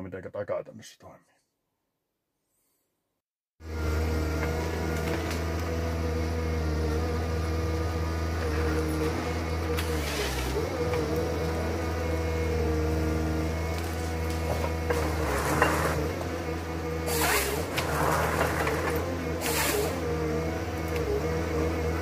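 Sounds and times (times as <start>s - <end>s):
diesel engine running: 3.6s - 22.0s.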